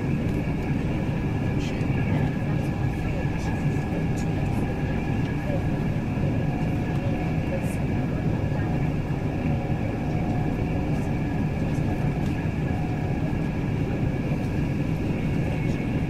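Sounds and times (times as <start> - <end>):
rumble of wheels on rail: 0.0 - 16.0.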